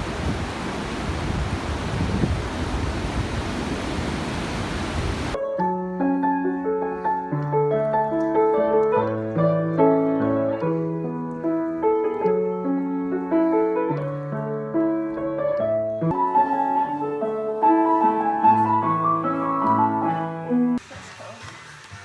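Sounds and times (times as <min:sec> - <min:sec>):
piano piece: 0:00.0 - 0:20.8.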